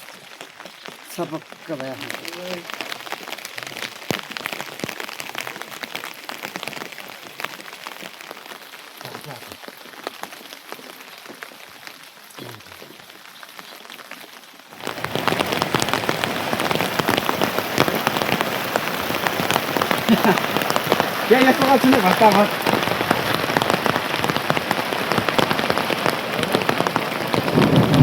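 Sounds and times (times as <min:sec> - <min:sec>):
rain falling: 0:00.0 - 0:28.0
raindrops ticking on surfaces: 0:00.0 - 0:28.0.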